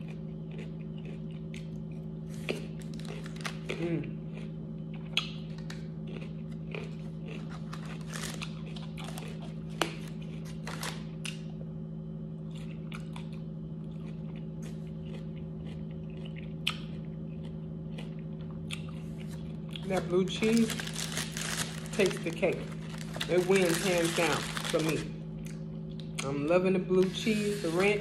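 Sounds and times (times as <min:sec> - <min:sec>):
person chewing crunchy food: 0:00.0 - 0:26.2
low hum: 0:00.0 - 0:28.0.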